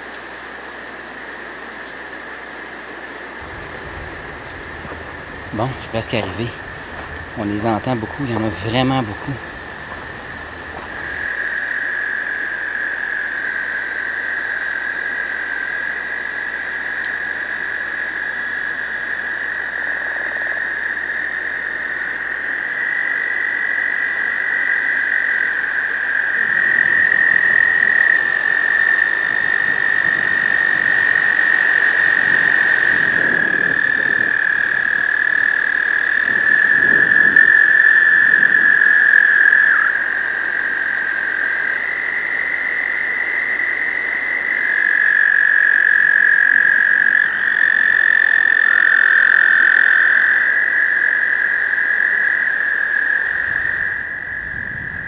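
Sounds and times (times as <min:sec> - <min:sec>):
toads trilling in chorus: 0:03.4 - 0:55.0.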